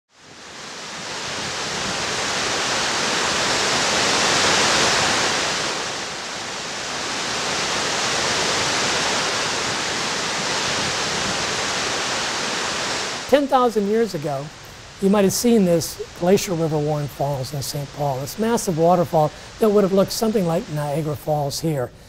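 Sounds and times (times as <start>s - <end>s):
waterfall rushing: 0.1s - 22.0s.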